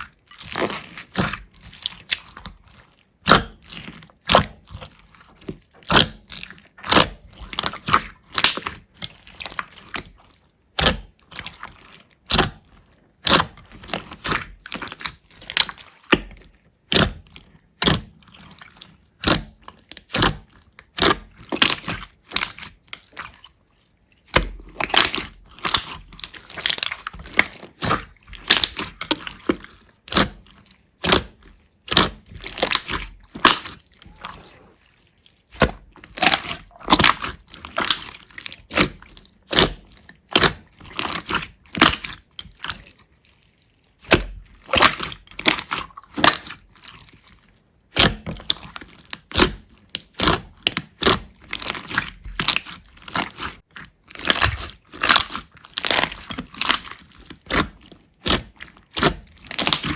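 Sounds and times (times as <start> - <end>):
slime crackling and popping: 0.0 - 23.4, 24.2 - 34.6, 35.3 - 43.1, 43.7 - 59.9.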